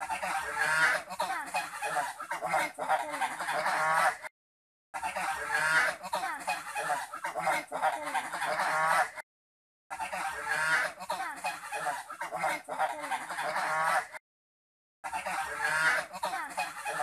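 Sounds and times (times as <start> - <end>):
geese honking: 0.0 - 4.3, 5.0 - 9.2, 9.9 - 14.2, 15.0 - 17.0.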